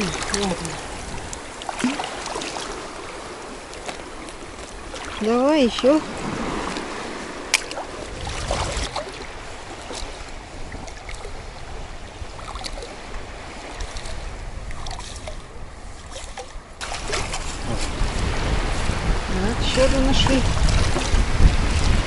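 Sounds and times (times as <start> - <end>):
seawater sloshing and lapping: 0.0 - 22.0
wind rumble on microphone: 0.0 - 22.0.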